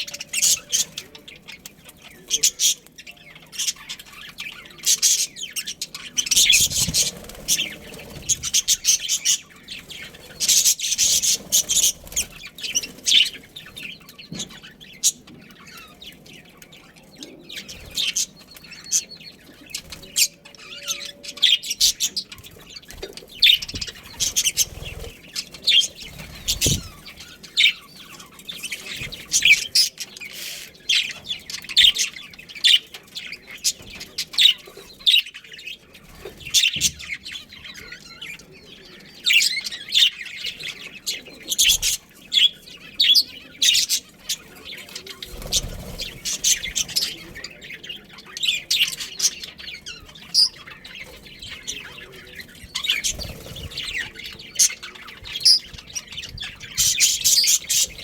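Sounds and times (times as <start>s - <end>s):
budgerigars chirping: 0.0s - 58.0s.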